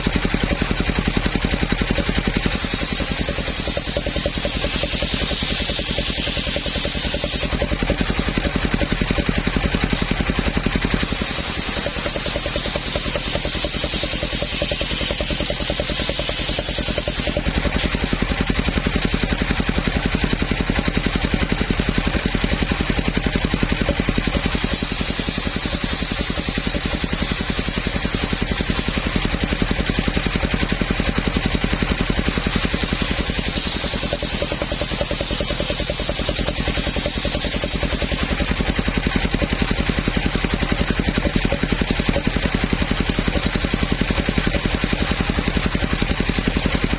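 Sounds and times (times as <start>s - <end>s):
saw hissing through wood: 0.0s - 46.9s
sawmill machine drone: 0.0s - 46.9s.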